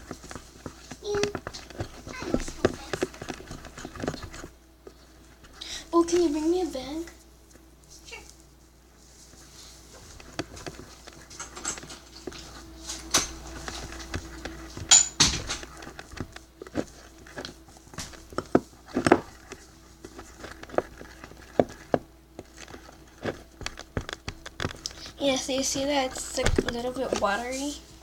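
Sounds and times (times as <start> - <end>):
stick tapping and scraping container: 0.0 - 6.4, 10.1 - 27.7.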